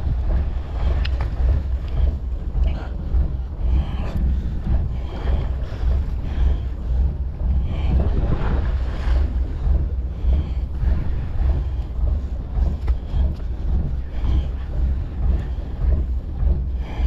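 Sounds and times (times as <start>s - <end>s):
sea washing around boat: 0.0s - 17.0s
wind buffeting microphone: 0.0s - 17.0s.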